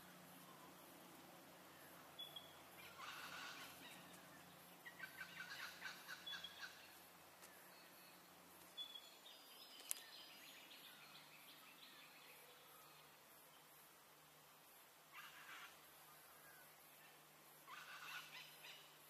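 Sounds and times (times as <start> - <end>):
bird calls: 0.0 - 13.2, 15.1 - 19.0.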